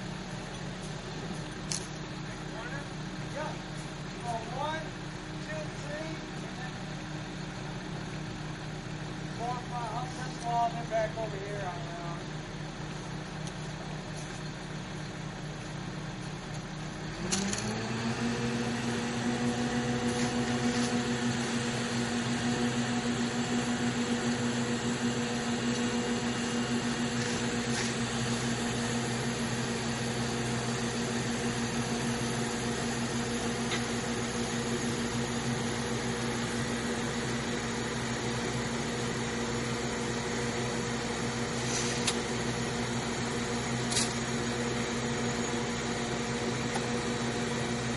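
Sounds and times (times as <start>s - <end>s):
crane engine running and revving: 0.0s - 47.9s.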